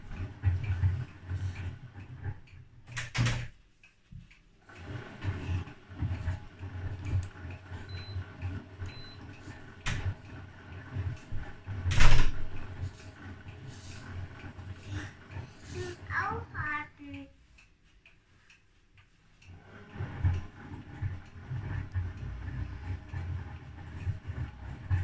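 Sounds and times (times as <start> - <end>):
washing machine motor humming: 0.0 - 25.0.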